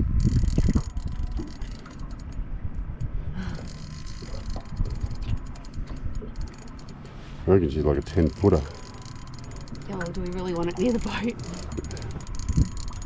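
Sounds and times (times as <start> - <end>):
fishing reel clicking: 0.0 - 2.4, 3.4 - 13.0.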